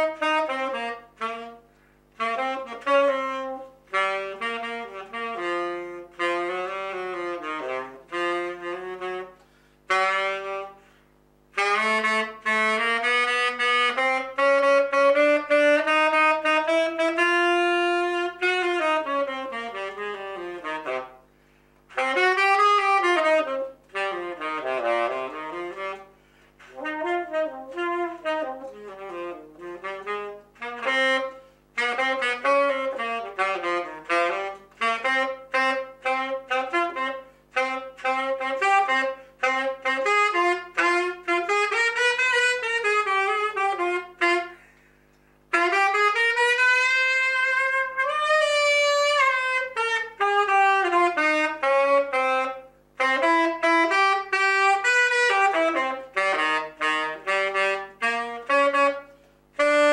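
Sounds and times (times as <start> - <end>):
saxophone solo: 0.0 - 59.9.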